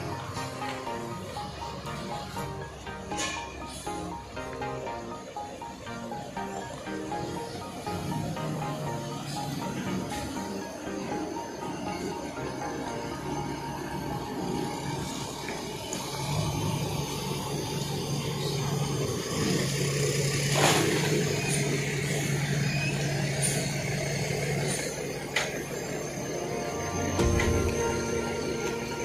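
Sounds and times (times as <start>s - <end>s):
bus diesel engine idling: 0.0s - 29.0s.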